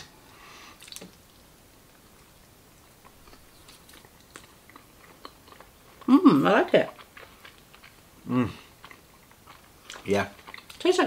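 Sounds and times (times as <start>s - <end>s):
faint chewing with mouth clicks: 0.6s - 11.0s.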